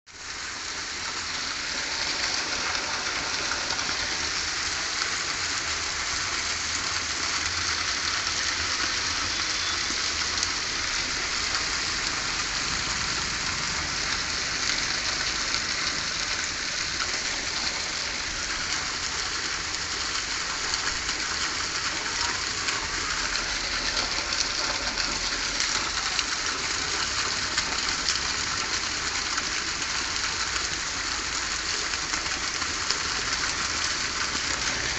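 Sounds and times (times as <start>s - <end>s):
falling water hiss: 0.2s - 34.9s.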